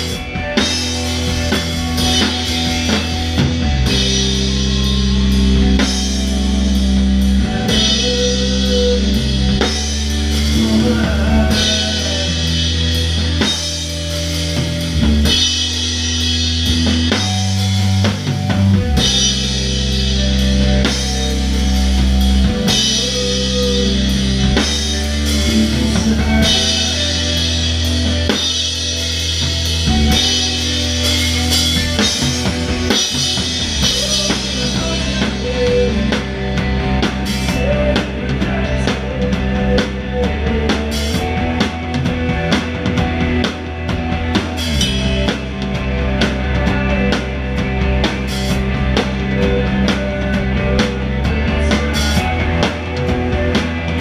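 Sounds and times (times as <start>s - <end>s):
low guitar and bass chords: 0.0s - 54.0s.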